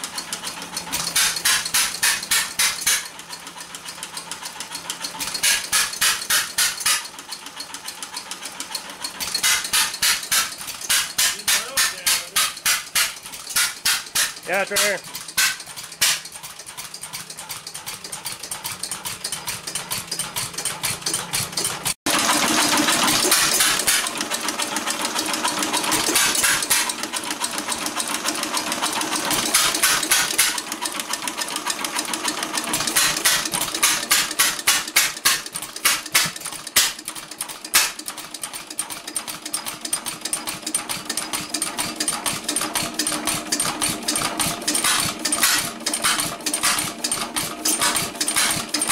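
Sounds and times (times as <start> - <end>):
hit-and-miss engine clattering: 0.0 - 48.9.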